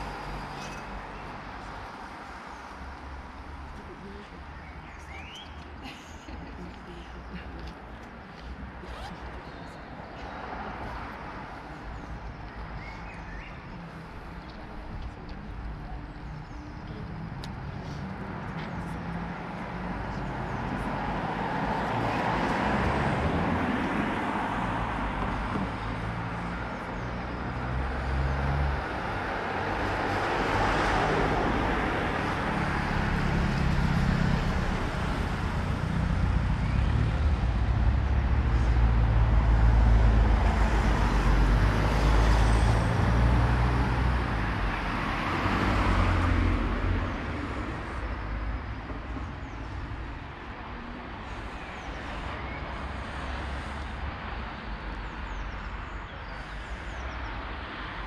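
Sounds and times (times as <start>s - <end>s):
cars passing: 0.0s - 58.0s
low traffic rumble: 0.0s - 58.0s.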